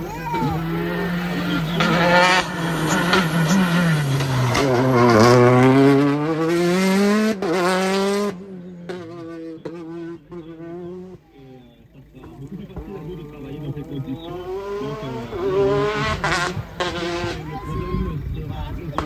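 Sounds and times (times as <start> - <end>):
rally car engine passing: 0.0 - 19.0.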